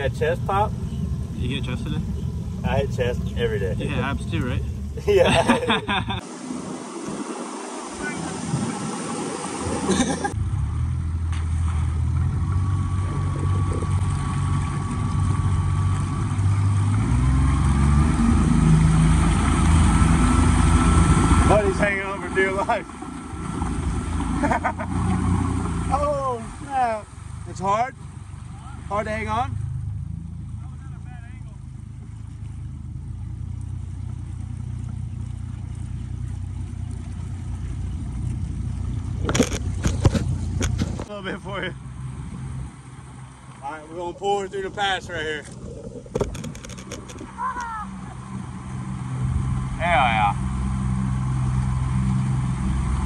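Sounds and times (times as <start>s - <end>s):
outboard motor running: 0.0s - 53.0s
water wash around hull: 0.0s - 53.0s.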